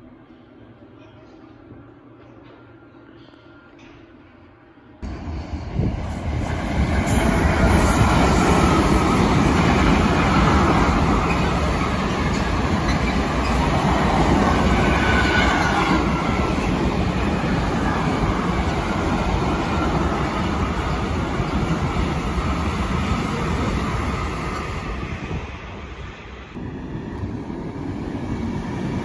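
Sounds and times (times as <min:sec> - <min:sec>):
freight train rattling past: 0:05.0 - 0:29.0.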